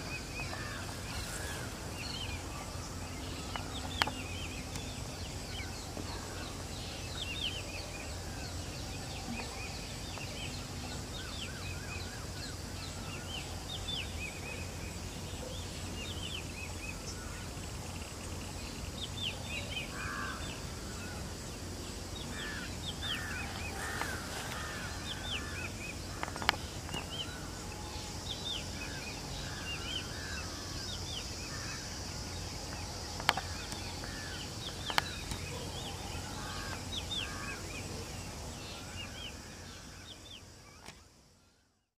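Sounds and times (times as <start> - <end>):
lower warbling bird calls: 0.0 - 41.1
steady low hum: 0.0 - 41.9.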